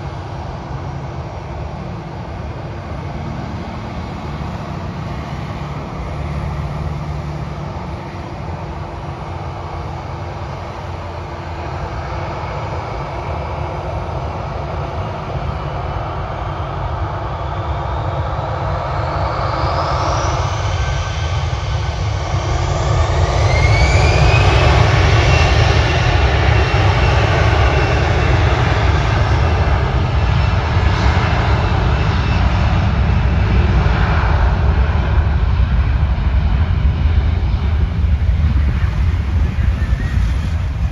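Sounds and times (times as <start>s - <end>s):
jet engines spooling up: 0.0s - 40.9s.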